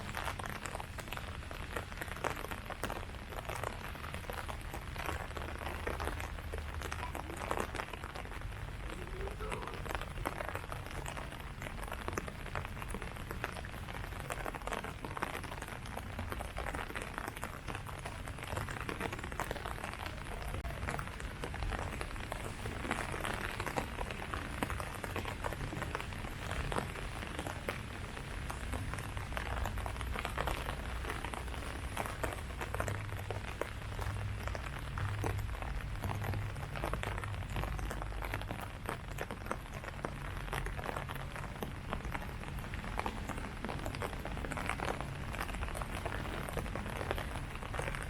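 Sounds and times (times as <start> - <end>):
rain falling on leaves: 0.0 - 48.0.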